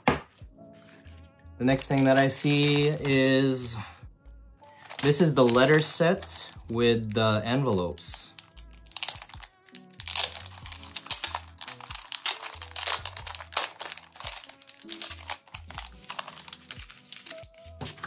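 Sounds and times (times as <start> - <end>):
background music with bass line: 0.0 - 18.0
plastic sleeve crinkling: 0.8 - 3.6, 4.8 - 18.0.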